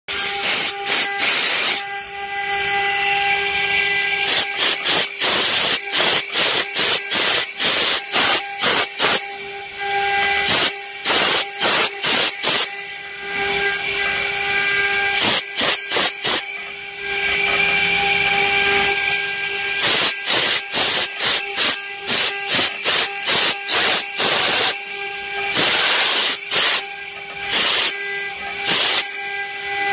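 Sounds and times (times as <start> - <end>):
engraving spindle whine: 0.1 - 29.9.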